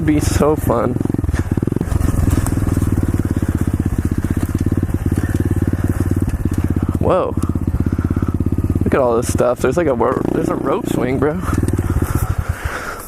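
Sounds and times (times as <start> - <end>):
motorbike engine puttering: 0.0 - 13.0.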